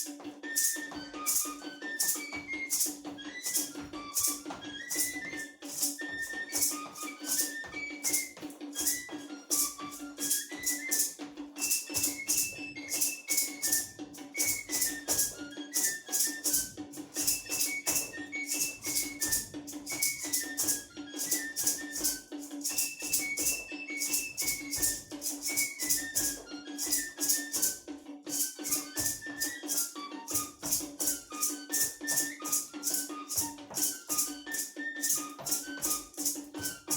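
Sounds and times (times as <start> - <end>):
shaken rattles: 0.0 - 36.9
whistle-like flute melody: 0.0 - 36.9.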